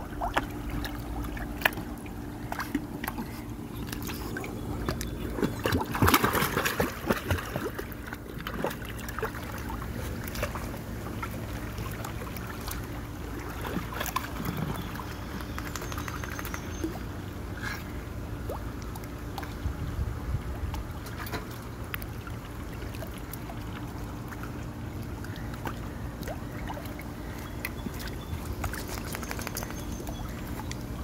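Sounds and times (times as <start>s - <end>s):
dog paddling in splashing water: 0.0s - 17.5s, 20.6s - 31.0s
steady low hum: 0.0s - 31.0s.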